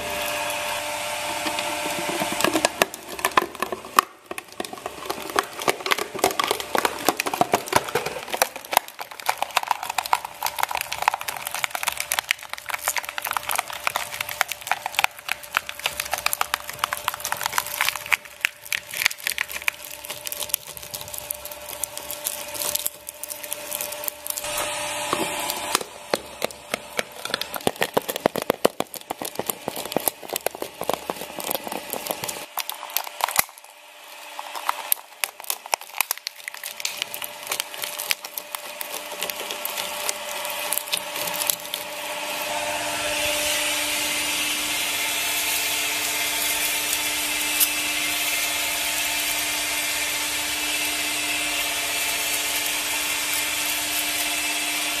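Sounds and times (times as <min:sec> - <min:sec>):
shredder crunching plastic: 0:00.0 - 0:55.0
shredder motor humming: 0:00.0 - 0:55.0.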